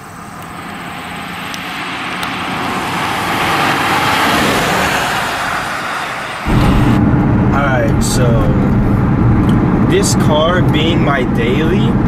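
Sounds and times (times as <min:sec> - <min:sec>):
car engine accelerating hard: 0:00.0 - 0:12.0
road noise: 0:00.0 - 0:12.0.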